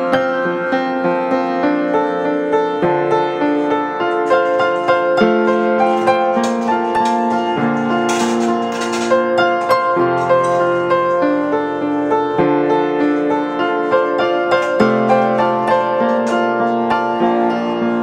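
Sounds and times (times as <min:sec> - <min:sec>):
calm piano music: 0:00.0 - 0:18.0.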